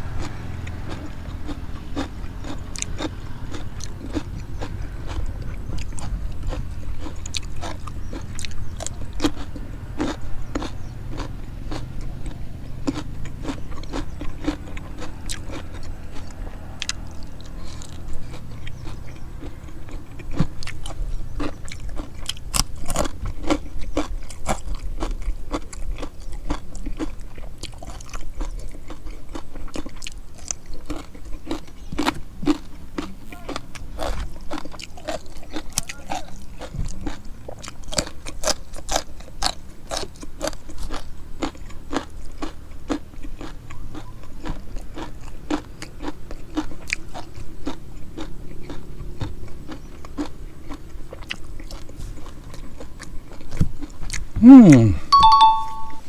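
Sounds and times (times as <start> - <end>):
person biting and chewing: 0.0 - 55.8.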